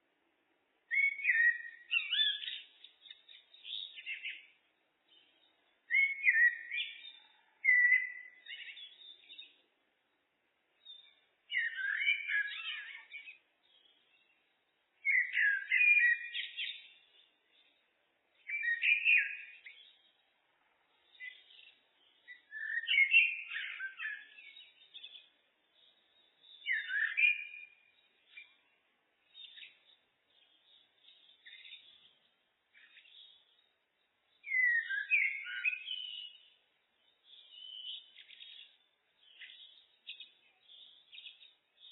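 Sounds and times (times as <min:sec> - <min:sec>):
blackbird song phrases: 0:00.0 - 0:41.9
faint bird twittering: 0:00.9 - 0:09.6, 0:10.8 - 0:41.9.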